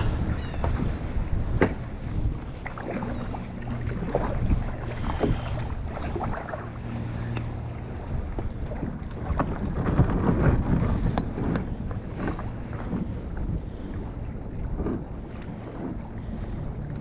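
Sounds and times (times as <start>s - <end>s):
water lapping: 0.0s - 17.0s
wind buffeting microphone: 0.0s - 17.0s
kayak paddle splashes and knocks: 0.5s - 17.0s.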